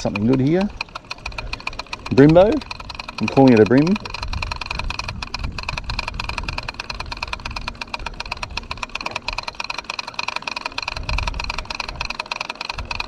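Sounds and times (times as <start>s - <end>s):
fishing reel clicking: 0.0s - 13.0s.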